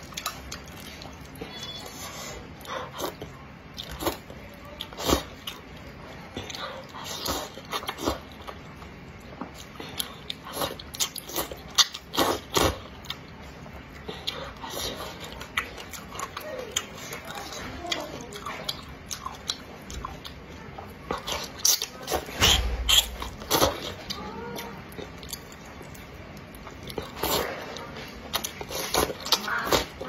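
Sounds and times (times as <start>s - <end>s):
slurping and chewing noodles: 0.0s - 30.0s.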